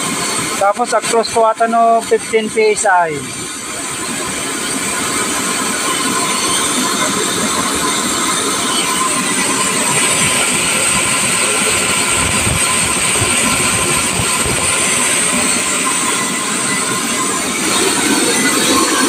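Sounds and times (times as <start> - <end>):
steam hissing from valve: 0.0 - 19.0.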